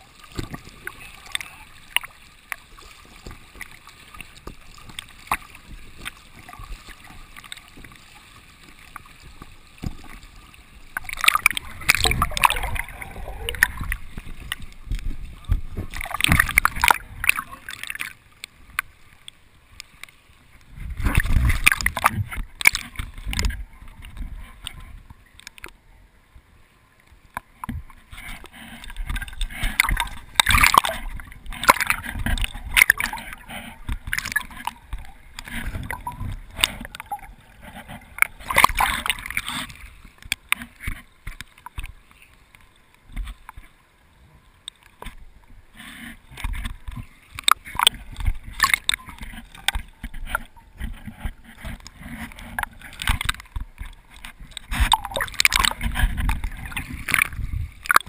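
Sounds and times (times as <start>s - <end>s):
muffled river water sloshing: 0.0s - 58.0s.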